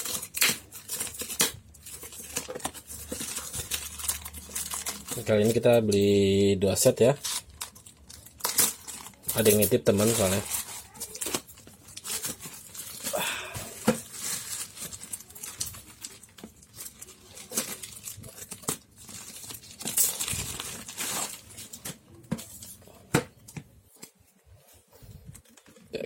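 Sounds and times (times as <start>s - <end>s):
packaging tearing and crinkling: 0.0s - 6.2s, 6.9s - 22.8s.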